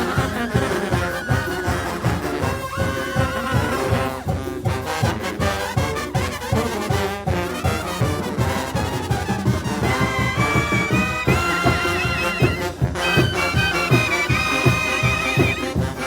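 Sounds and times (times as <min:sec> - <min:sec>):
trumpets and trombones: 0:00.0 - 0:16.0
tuba and drums beat: 0:00.0 - 0:16.0.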